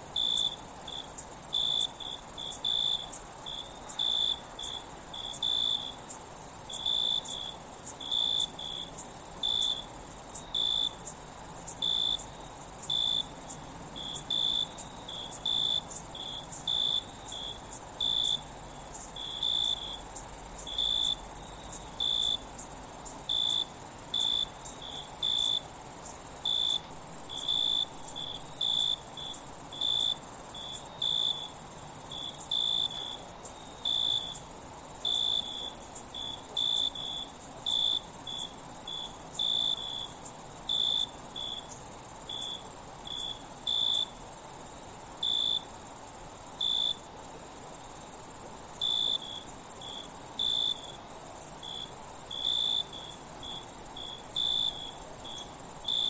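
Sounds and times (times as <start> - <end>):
crickets trilling: 0.0 - 56.0
insect chirps: 0.0 - 56.0.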